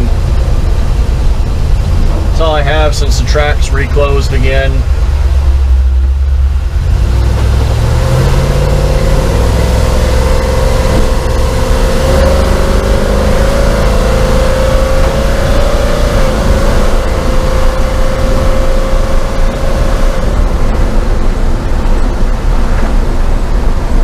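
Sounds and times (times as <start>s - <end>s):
pickup engine accelerating: 0.0s - 24.0s
road noise: 0.0s - 24.0s.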